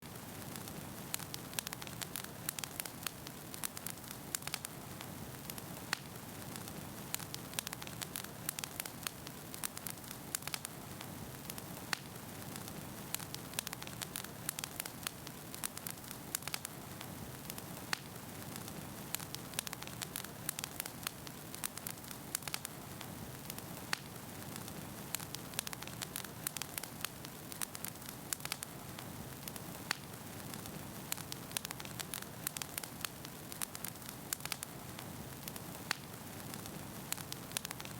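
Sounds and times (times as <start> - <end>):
logs crackling and popping: 0.0 - 37.9
soft rush of fire: 0.0 - 37.9.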